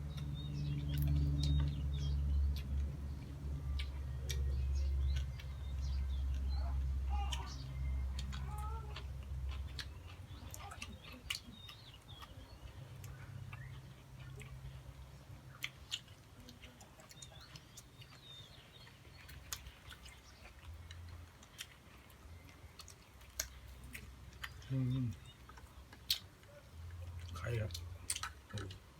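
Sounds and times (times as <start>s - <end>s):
person chewing: 0.0s - 28.9s.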